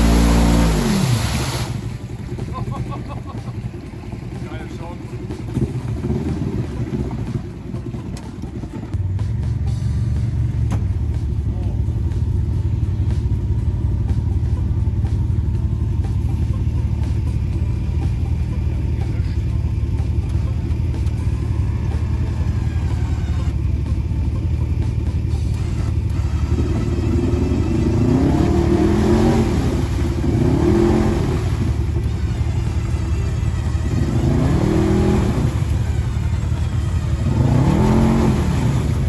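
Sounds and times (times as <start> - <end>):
utv engine rumbling: 0.0 - 39.0.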